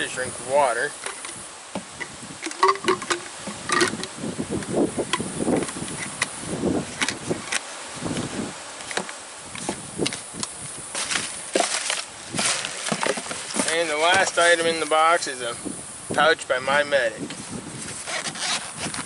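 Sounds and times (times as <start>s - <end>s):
plastic bottle parts clicking and scraping: 0.9s - 14.9s, 17.2s - 19.0s.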